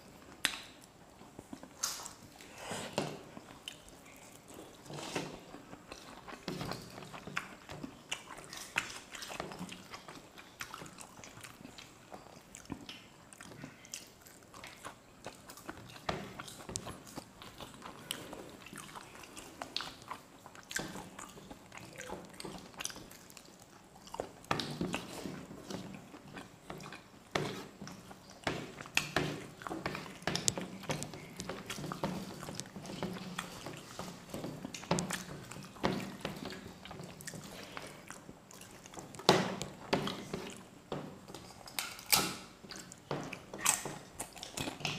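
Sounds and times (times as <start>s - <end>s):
people chewing and biting: 0.0s - 44.9s.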